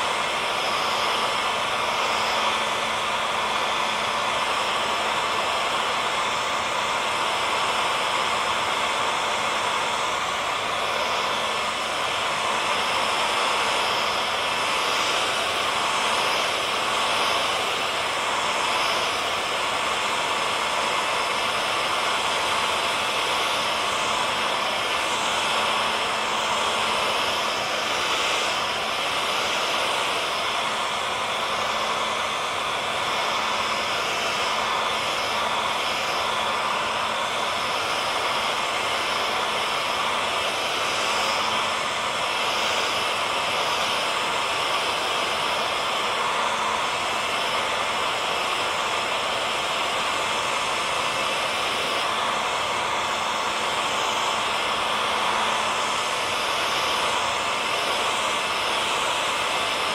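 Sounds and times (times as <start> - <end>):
faint motor hum: 0.0 - 59.9
hair dryer blowing air: 0.0 - 59.9.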